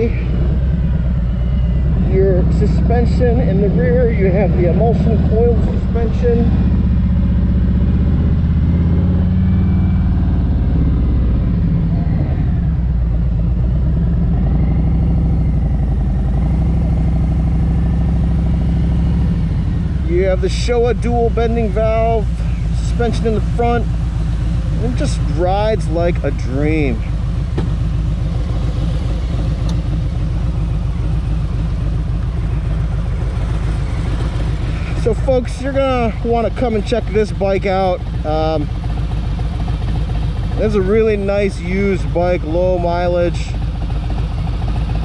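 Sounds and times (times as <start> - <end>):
motorcycle engine cruising: 0.0 - 45.0.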